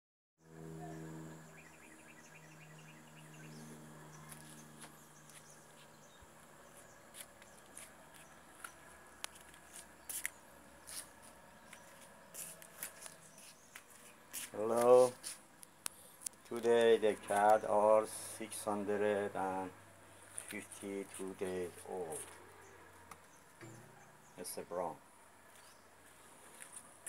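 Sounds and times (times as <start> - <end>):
low steady hum: 0.4 - 27.0.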